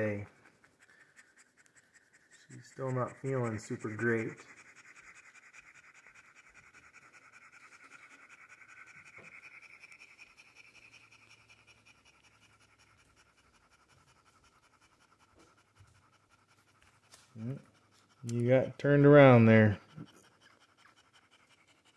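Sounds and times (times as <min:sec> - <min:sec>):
dog panting rapidly: 0:00.0 - 0:21.9.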